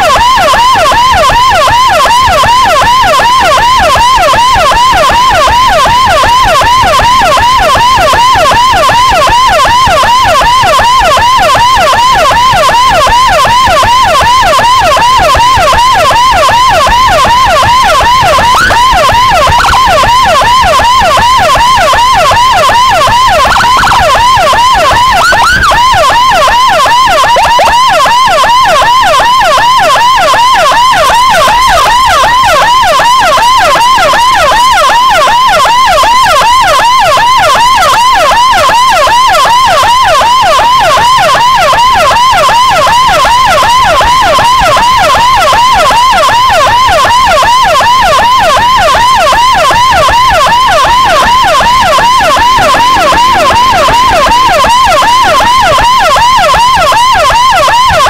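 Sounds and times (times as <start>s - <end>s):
electronic siren yelping: 0.0s - 58.0s.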